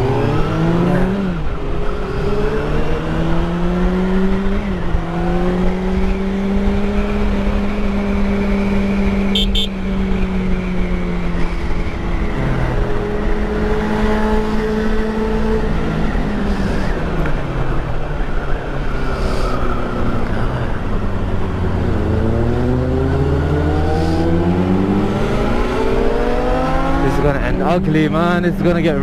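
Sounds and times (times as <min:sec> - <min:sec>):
motorcycle engine accelerating: 0:00.0 - 0:29.0
road and wind noise: 0:00.0 - 0:29.0.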